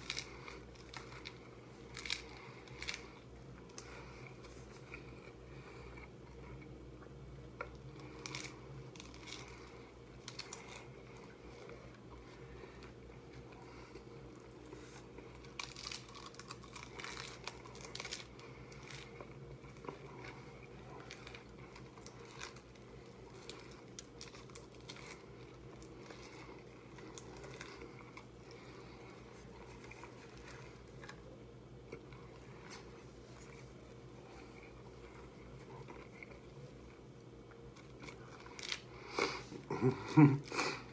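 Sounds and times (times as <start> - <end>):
crunchy tacos bitten and chewed: 0.0 - 40.9.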